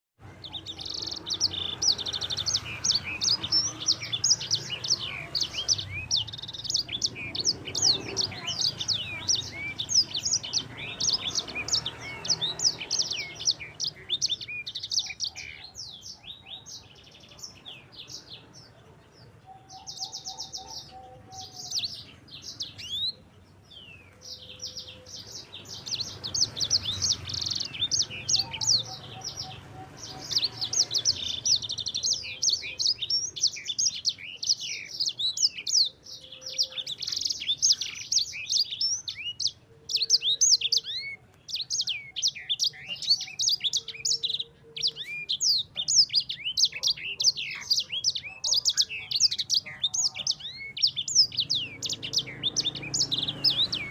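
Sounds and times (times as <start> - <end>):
canary singing trills: 0.2 - 53.9.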